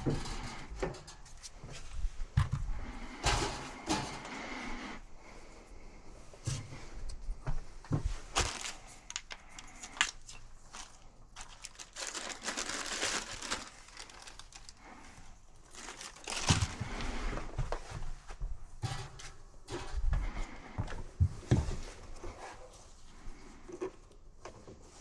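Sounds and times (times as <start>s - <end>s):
rustling and crinkling: 0.0s - 25.0s.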